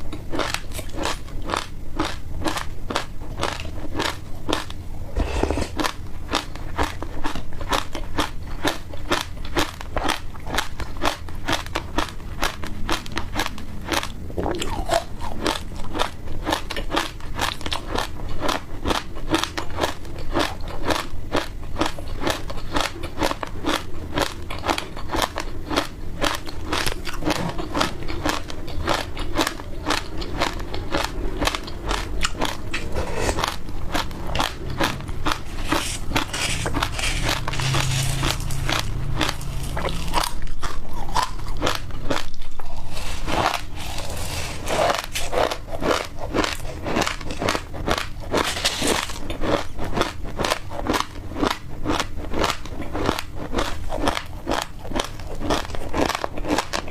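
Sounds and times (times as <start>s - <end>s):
crunching and chewing seeds: 0.0s - 56.9s.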